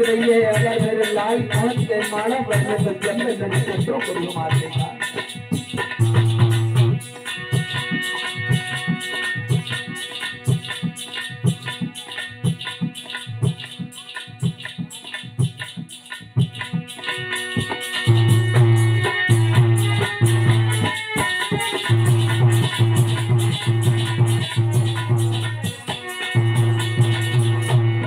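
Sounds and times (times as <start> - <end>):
hand drum beating: 0.0 - 28.0
harmonium chords: 0.0 - 28.0.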